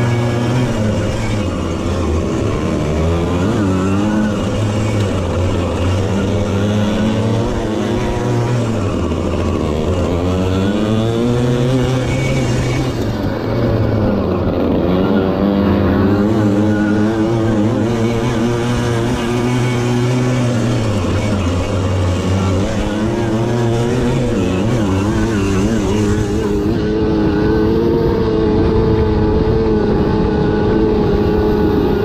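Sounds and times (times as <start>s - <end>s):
moped engines racing: 0.0s - 32.0s.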